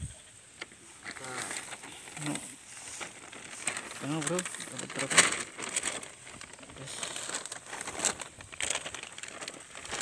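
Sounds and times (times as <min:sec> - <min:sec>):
plastic sack crinkling: 0:00.9 - 0:10.0.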